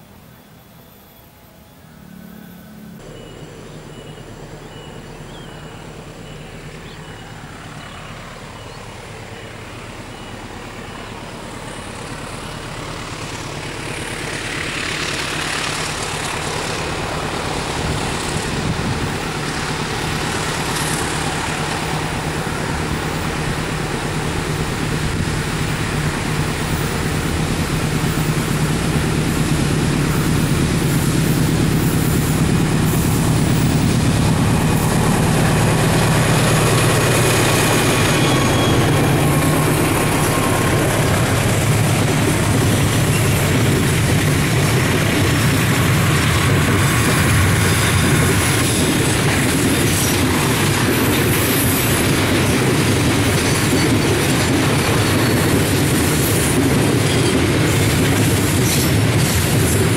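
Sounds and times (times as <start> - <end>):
locomotive engine drone: 0.0 - 59.9.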